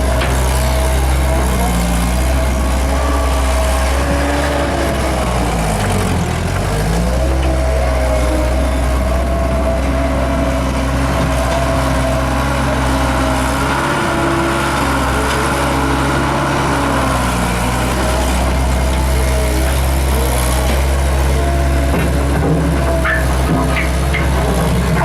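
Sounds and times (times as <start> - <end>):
skid steer diesel engine: 0.0 - 25.0.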